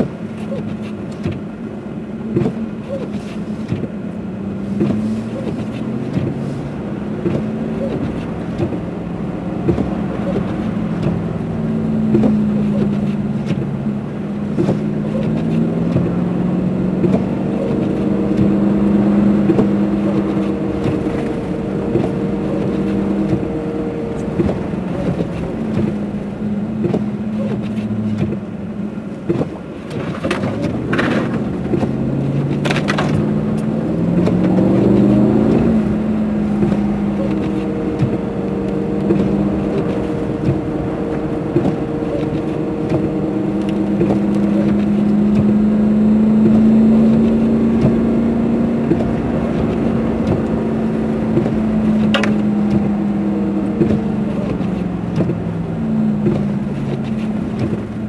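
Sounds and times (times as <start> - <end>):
car engine running: 0.0 - 58.0
tyres crunching through snow: 0.0 - 58.0.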